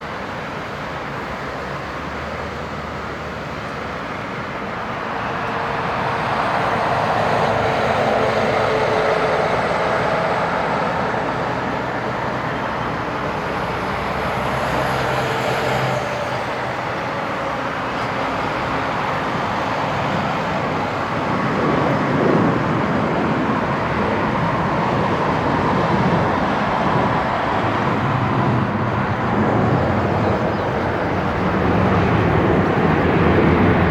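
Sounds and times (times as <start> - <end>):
jet engines rushing: 0.0 - 33.9.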